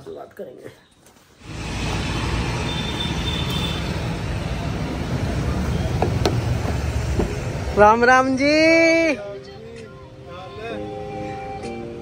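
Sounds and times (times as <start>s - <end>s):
road traffic rumble: 1.2s - 11.2s.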